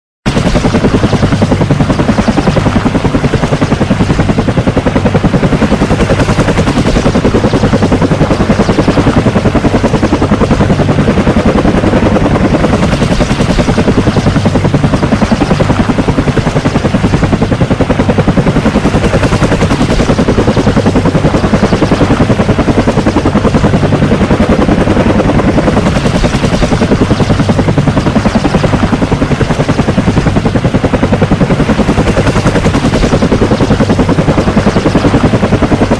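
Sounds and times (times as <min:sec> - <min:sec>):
helicopter rotor chopping: 0:00.3 - 0:35.9.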